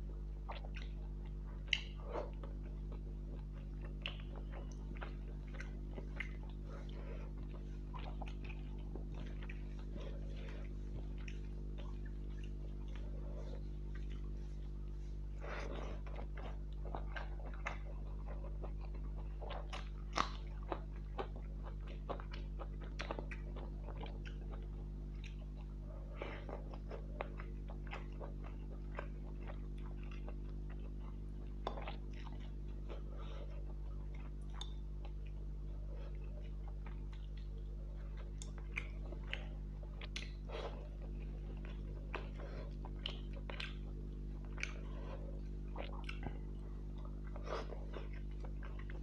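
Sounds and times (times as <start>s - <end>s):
person chewing food: 0.0s - 49.0s
steady low hum: 0.0s - 49.0s.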